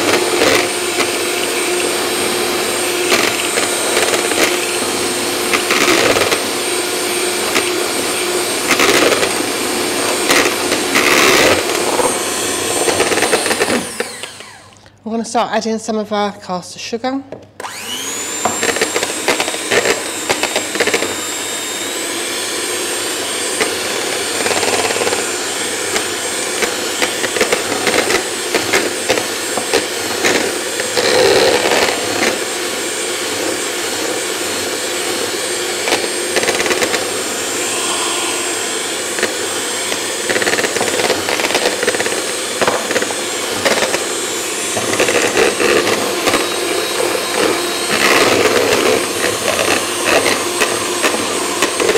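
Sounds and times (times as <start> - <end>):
electric hand mixer whining: 0.0 - 15.0, 17.6 - 51.9.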